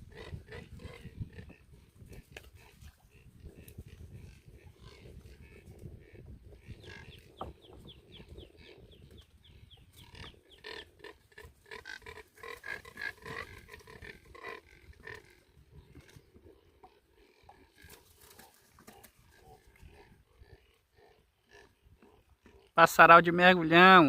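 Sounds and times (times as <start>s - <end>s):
cormorants croaking: 0.0s - 24.0s.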